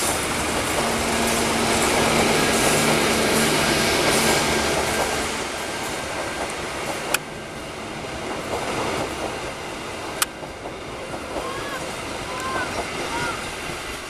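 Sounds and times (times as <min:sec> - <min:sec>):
train rumbling over rails: 0:00.0 - 0:14.0.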